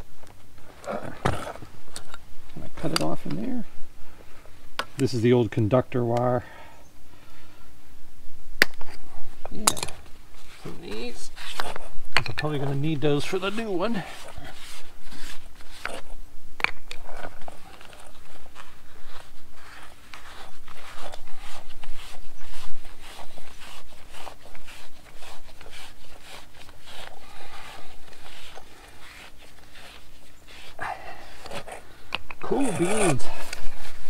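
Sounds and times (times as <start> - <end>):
faint steady hum: 0.0 - 34.0
scrapes rubs and clicks of handling: 0.3 - 3.6, 8.6 - 34.0.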